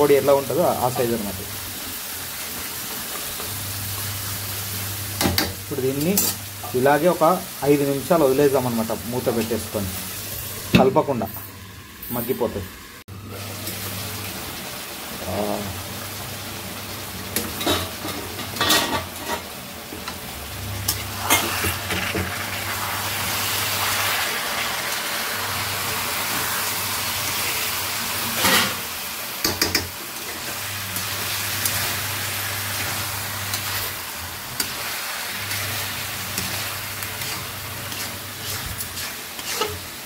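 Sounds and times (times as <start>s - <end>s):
chicken sizzling in oil: 0.0s - 12.0s, 12.8s - 40.0s.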